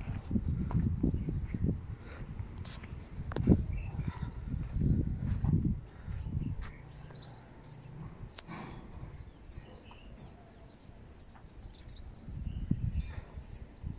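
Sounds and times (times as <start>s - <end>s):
outdoor background noise: 0.0s - 13.9s
small birds chirping: 0.0s - 13.9s.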